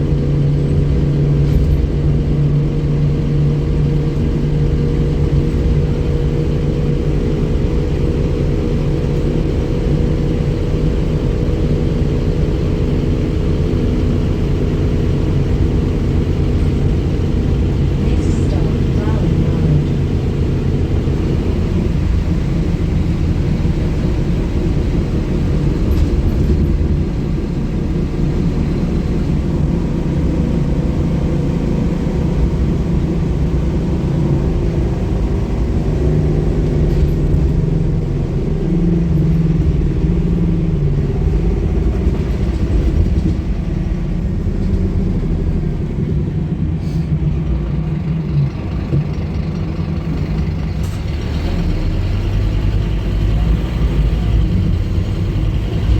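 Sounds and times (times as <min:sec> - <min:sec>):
bus diesel engine rumble: 0:00.0 - 0:55.9.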